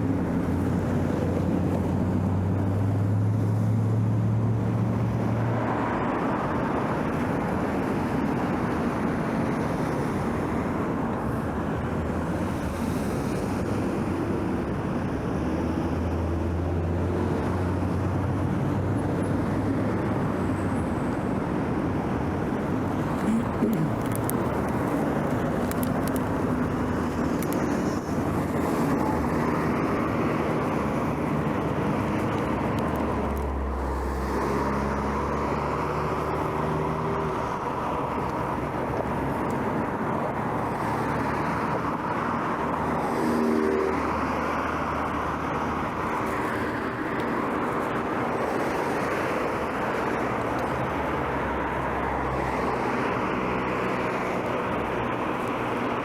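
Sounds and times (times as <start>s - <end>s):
low engine hum: 0.0s - 56.0s
road traffic: 0.0s - 56.0s.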